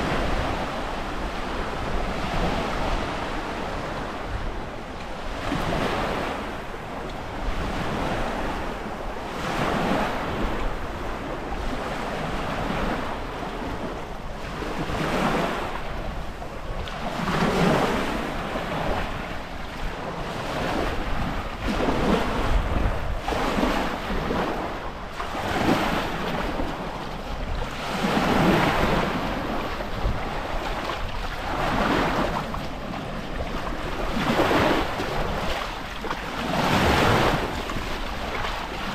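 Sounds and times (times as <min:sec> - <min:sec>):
small waves breaking on a beach: 0:00.0 - 0:38.9
wind buffeting microphone: 0:00.0 - 0:38.9.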